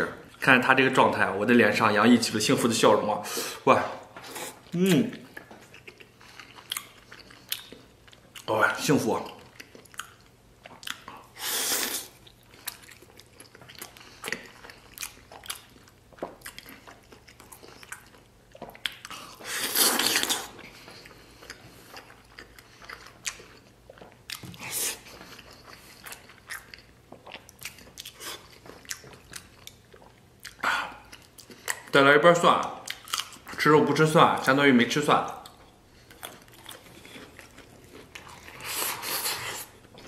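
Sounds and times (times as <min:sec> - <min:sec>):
man chewing food: 0:03.3 - 0:32.0, 0:32.8 - 0:33.6, 0:35.2 - 0:40.0.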